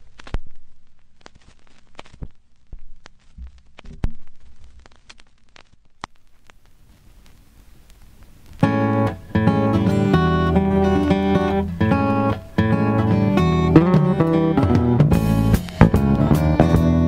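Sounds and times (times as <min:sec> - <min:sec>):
faint hiss: 0:00.0 - 0:17.0
vinyl crackles and pops: 0:00.0 - 0:17.0.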